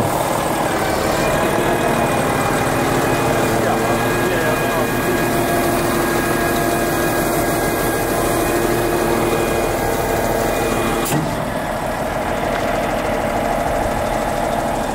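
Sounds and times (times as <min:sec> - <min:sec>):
diesel truck idling: 0:00.0 - 0:14.9
steady whine: 0:00.0 - 0:14.9.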